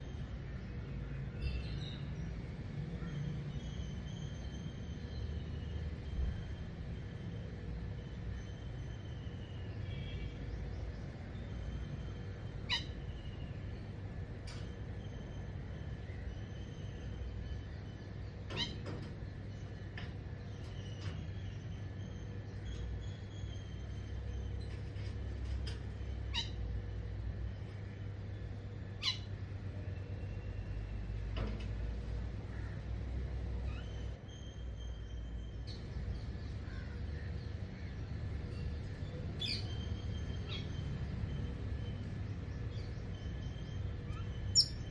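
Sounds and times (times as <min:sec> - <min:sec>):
birds singing faintly: 0:00.0 - 0:44.9.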